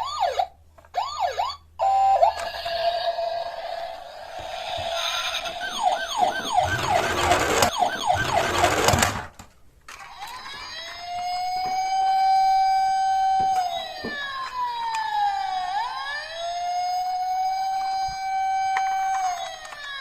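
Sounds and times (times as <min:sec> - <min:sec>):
toy siren wail: 0:00.0 - 0:09.1, 0:10.0 - 0:20.0
toy siren fast falling sweep: 0:01.0 - 0:09.1, 0:10.1 - 0:20.0.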